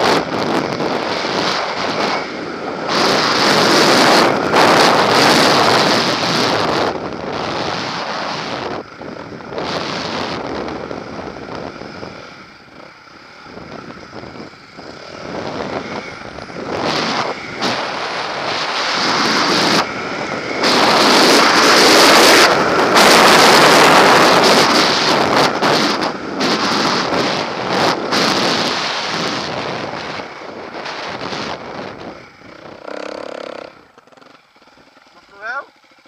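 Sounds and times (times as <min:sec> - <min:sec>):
wind rush on microphone: 0:00.0 - 0:34.2
motorcycle engine running hard: 0:00.0 - 0:36.0.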